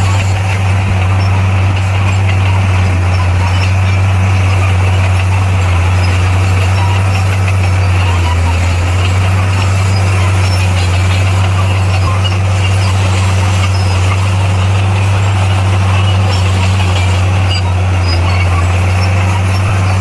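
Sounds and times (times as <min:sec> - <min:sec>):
heavy machinery diesel engine droning: 0:00.0 - 0:20.0.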